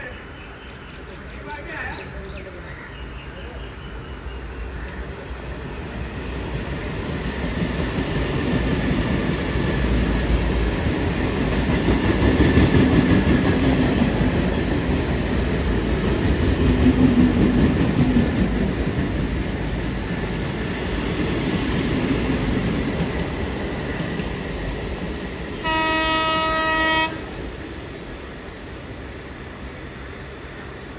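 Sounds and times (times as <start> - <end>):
train running past: 0.0 - 30.9.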